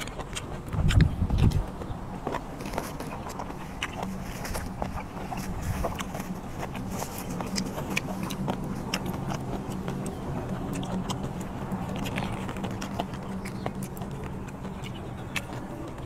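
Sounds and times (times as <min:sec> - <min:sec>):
steady low hum: 0:00.0 - 0:16.0
wet chewing clicks and smacks: 0:00.0 - 0:16.0.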